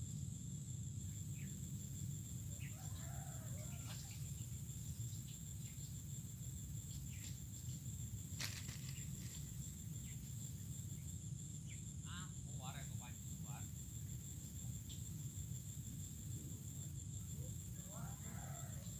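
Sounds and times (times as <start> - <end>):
high-pitched insect drone: 0.0 - 18.9.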